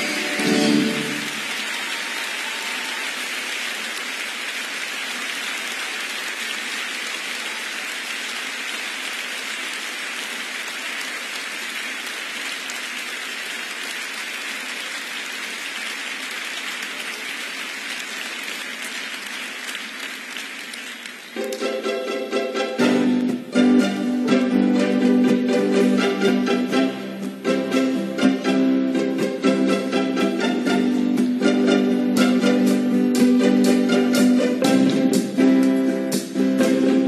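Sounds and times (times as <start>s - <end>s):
audience applauding: 0.0s - 37.0s.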